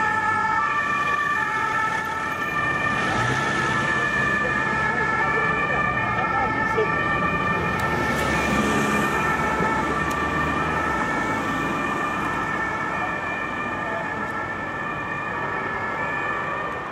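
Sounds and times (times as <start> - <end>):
emergency vehicle siren: 0.0 - 16.9
road traffic: 0.0 - 16.9.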